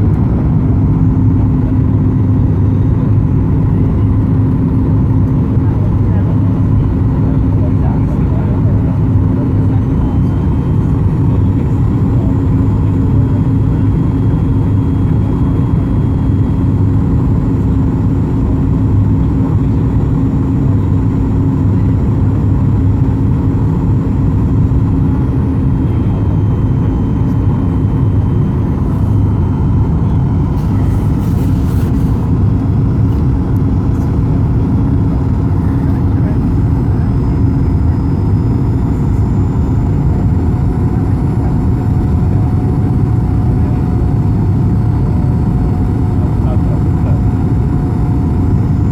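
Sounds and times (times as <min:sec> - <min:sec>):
airliner cabin engine drone: 0:00.0 - 0:48.9.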